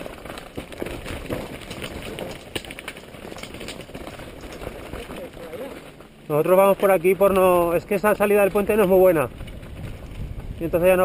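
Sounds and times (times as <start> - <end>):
bike rattling and clicking: 0.0 - 11.0
tyres crunching over dirt: 0.0 - 11.0.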